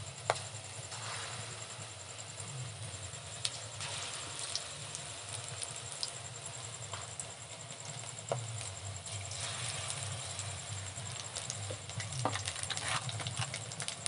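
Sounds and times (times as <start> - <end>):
food sizzling in hot oil: 0.0 - 14.0
low steady hum: 0.0 - 14.0.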